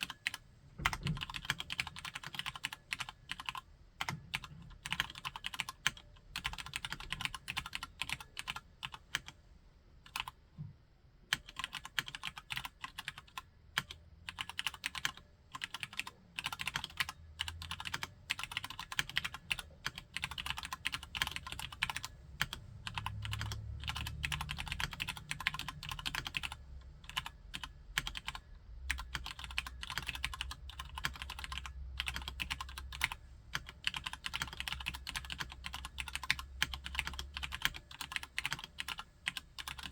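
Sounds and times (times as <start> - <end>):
mechanical keyboard typing: 0.0 - 9.4, 10.1 - 10.4, 11.3 - 39.9.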